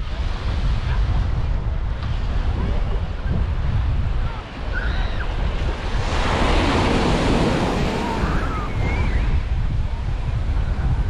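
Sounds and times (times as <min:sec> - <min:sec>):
surf breaking on beach: 0:00.0 - 0:11.0
wind rumbling on microphone: 0:00.0 - 0:11.0.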